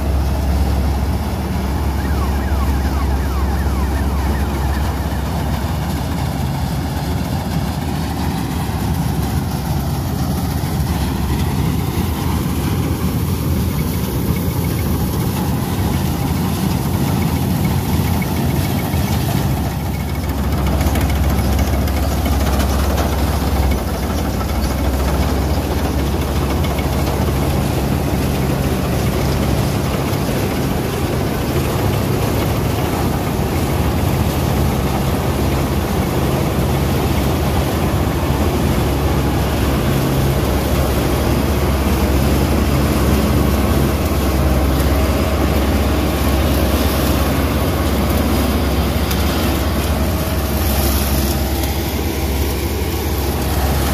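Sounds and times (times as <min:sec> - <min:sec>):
combine harvester mechanical drone: 0:00.0 - 0:53.9.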